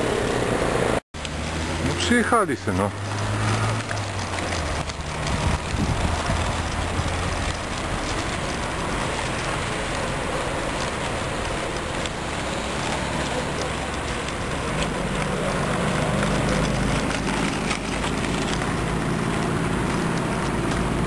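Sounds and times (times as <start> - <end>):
small wheels rolling on asphalt: 0.0 - 21.0.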